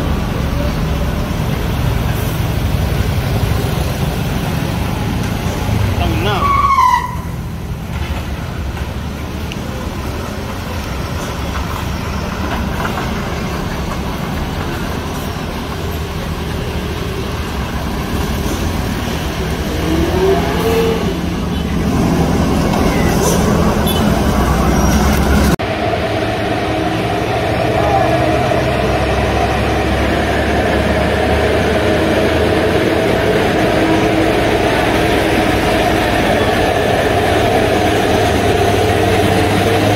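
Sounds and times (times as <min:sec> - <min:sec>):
truck engines rumbling: 0:00.0 - 0:39.9.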